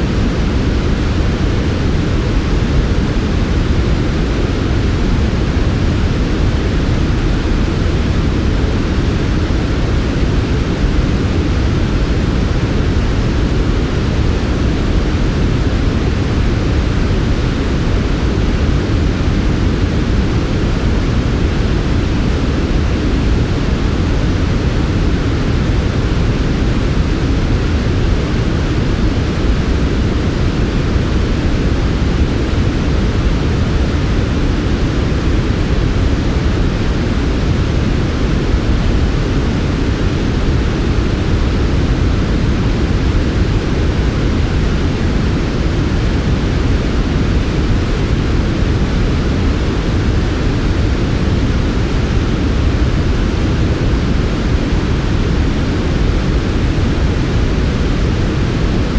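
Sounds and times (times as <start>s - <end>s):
low white noise: 0.0s - 58.9s.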